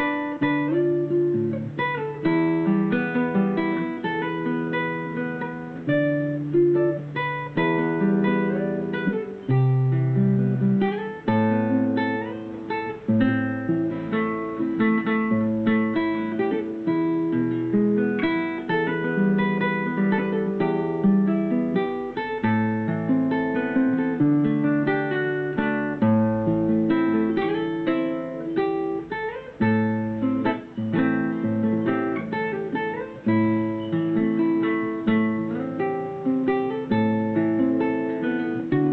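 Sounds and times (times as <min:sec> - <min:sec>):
classical guitar fingerpicked: 0:00.0 - 0:38.9.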